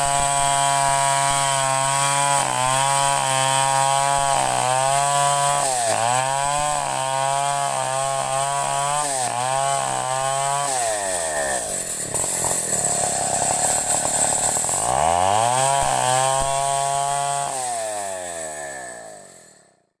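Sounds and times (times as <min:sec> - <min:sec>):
chainsaw running at high revs: 0:00.0 - 0:19.9.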